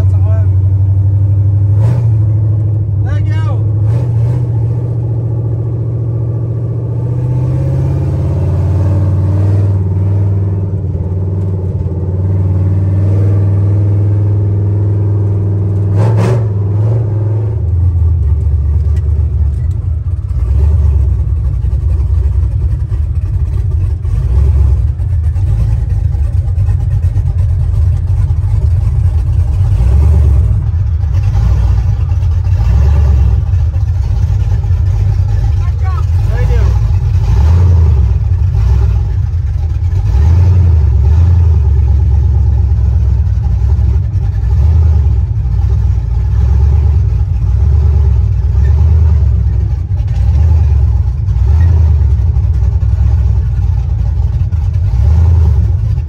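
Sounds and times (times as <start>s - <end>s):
pickup truck engine running: 0.0s - 56.0s.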